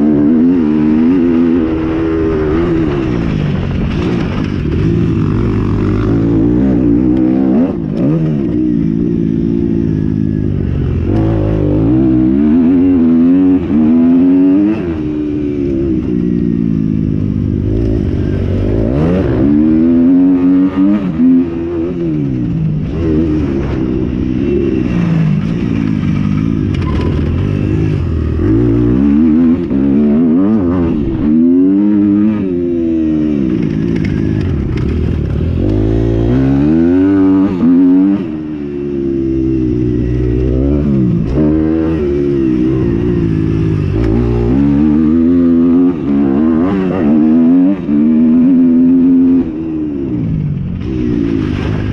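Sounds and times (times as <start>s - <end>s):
motocross engines revving: 0.0s - 51.9s.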